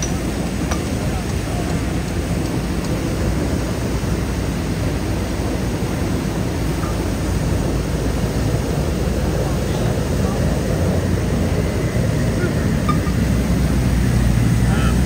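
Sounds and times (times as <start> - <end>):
water gushing from fire hydrant: 0.0 - 15.0.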